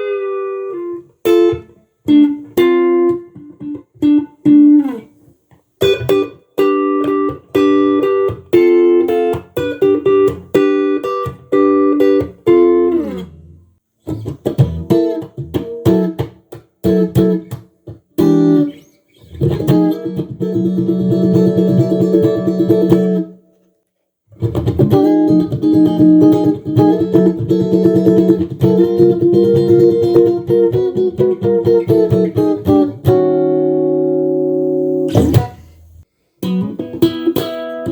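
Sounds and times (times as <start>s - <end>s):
electric guitar chords and notes: 0.0s - 5.1s, 5.8s - 23.4s, 24.4s - 37.9s.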